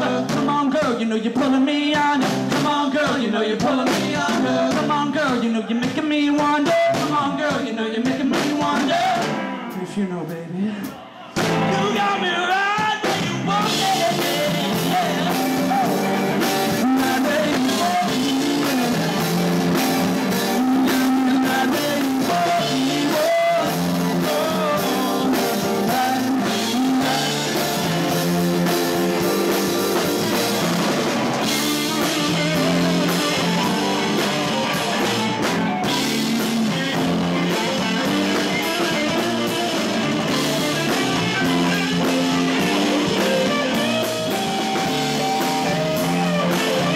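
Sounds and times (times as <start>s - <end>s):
rock band playing: 0.0s - 10.0s, 10.8s - 46.9s.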